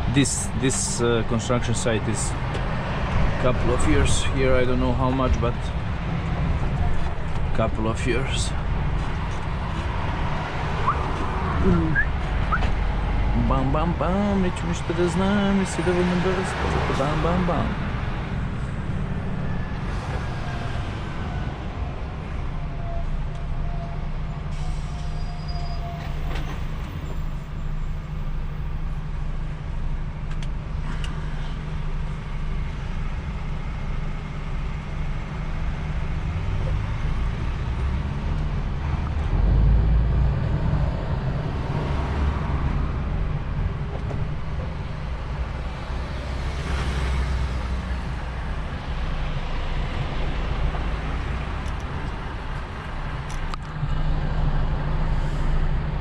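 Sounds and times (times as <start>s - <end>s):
road noise: 0.0s - 56.0s
truck engine drone: 0.0s - 56.0s.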